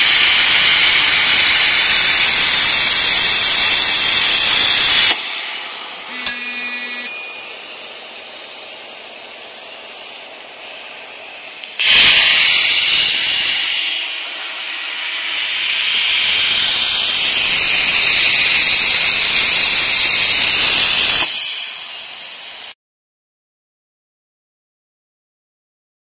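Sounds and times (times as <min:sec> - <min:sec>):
loud gas hiss: 0:00.0 - 0:22.8.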